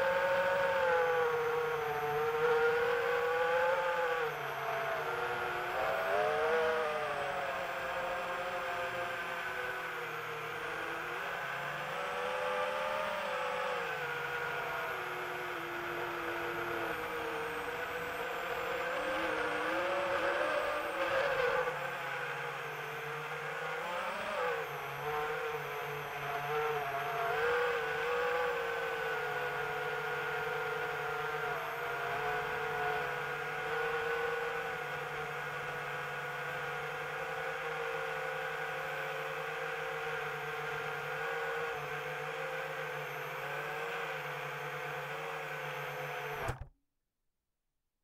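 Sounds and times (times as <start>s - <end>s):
drone propellers whining: 0.0s - 36.7s, 42.9s - 46.7s.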